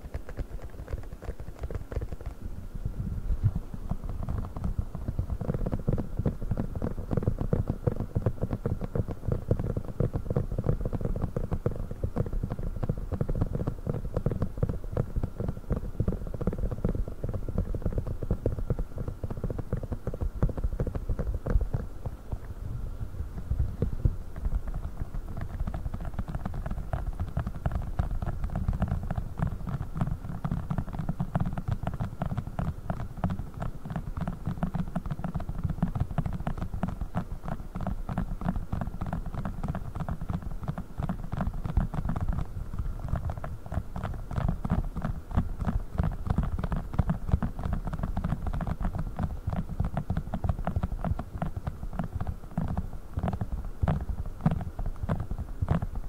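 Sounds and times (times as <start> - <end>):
soft tapping on silicone: 3.4 - 22.6, 23.4 - 56.0.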